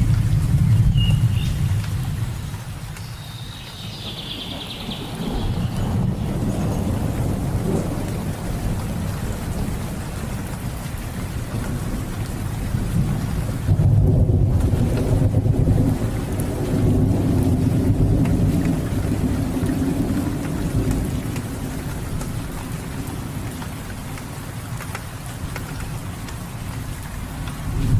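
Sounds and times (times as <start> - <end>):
rolling thunder: 0.0 - 2.8, 4.0 - 23.6
steady rain: 0.0 - 27.9.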